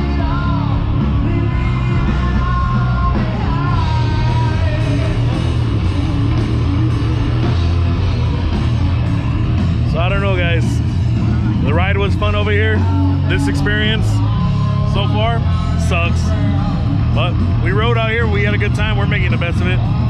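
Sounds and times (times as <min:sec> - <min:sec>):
heavy booming bass: 0:00.0 - 0:20.0
live rock band playing: 0:00.0 - 0:20.0.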